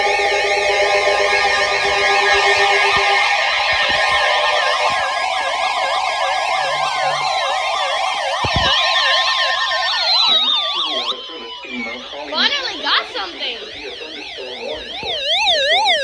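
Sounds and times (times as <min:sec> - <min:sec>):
electronic sirens warbling: 0:00.0 - 0:16.0.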